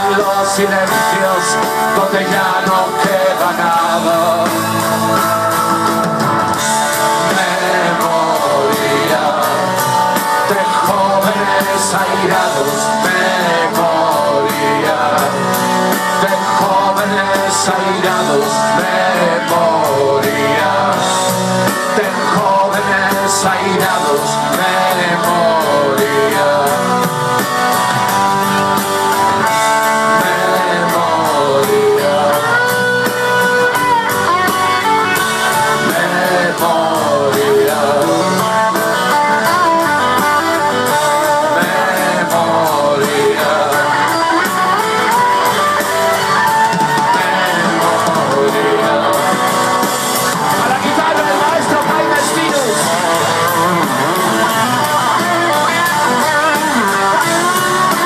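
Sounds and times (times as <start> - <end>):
drums: 0.0 - 58.0
electric guitars: 0.0 - 58.0.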